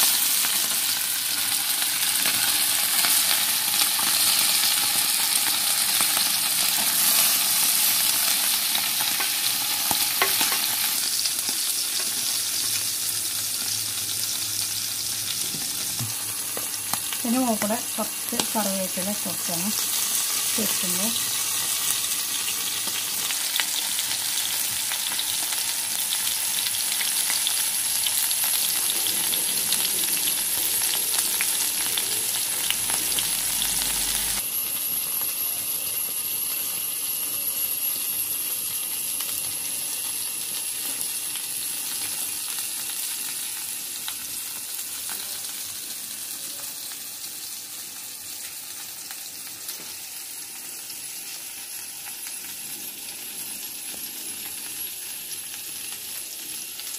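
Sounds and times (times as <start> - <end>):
fish frying in oil: 0.0 - 56.9.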